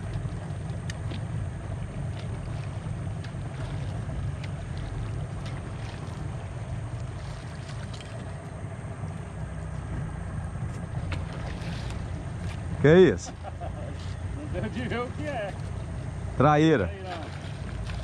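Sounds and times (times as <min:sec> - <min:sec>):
boat engine rumble: 0:00.0 - 0:18.0
water rushing past hull: 0:00.0 - 0:18.0.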